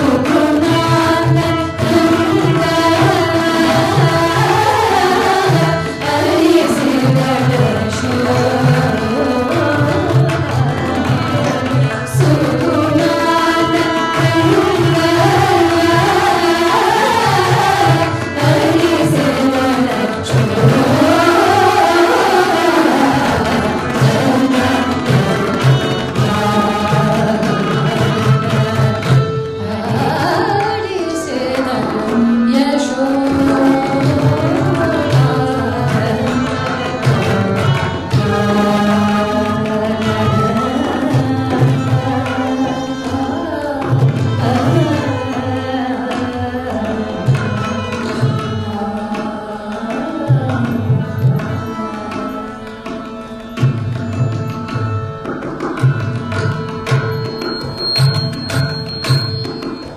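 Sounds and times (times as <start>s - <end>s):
woman singing: 0.0s - 53.2s
harmonium: 0.0s - 59.9s
violin: 0.0s - 59.9s.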